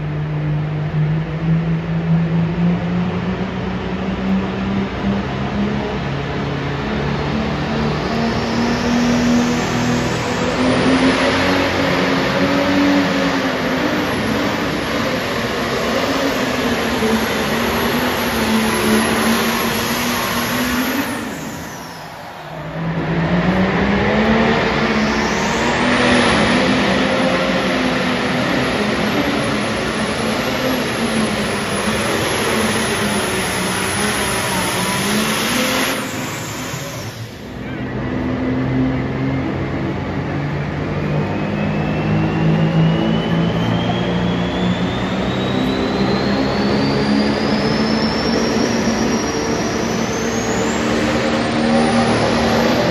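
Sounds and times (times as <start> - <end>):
high rising whistle: 6.0 - 52.9.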